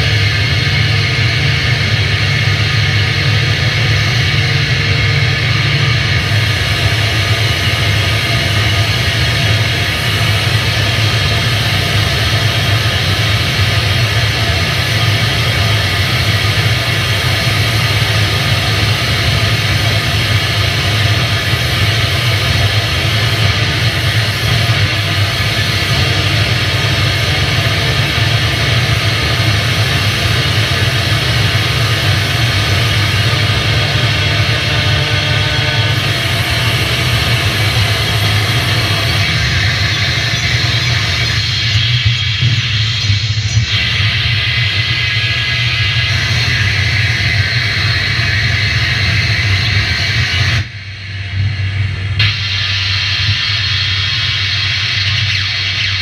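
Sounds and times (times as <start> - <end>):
electric guitar noise drone: 0.0 - 56.0.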